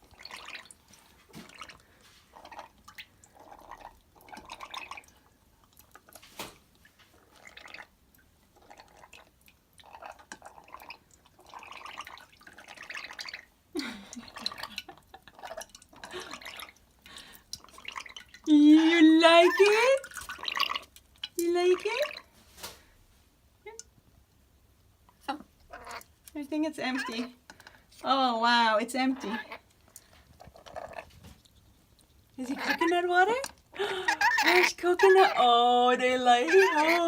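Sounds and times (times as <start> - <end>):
parrots lapping liquid: 0.0 - 37.0.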